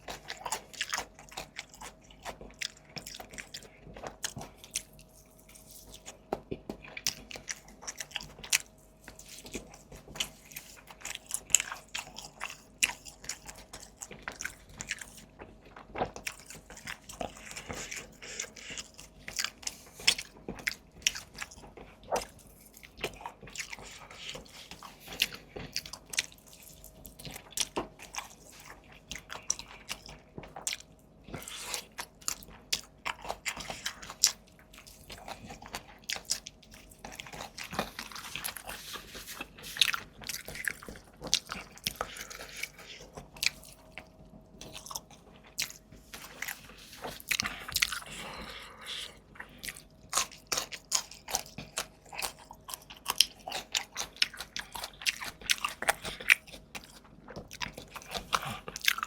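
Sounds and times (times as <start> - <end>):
crunchy bites and chewing: 0.0 - 59.0.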